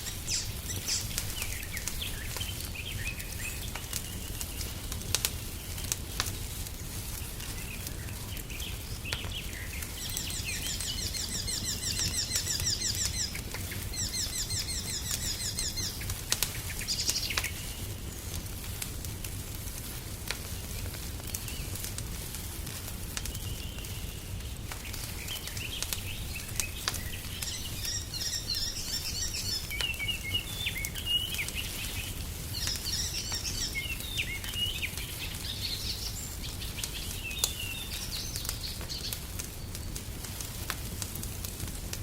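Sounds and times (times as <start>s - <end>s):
songbirds chirping: 0.0s - 19.4s, 22.6s - 40.3s
wood fire crackling and popping: 0.0s - 42.0s.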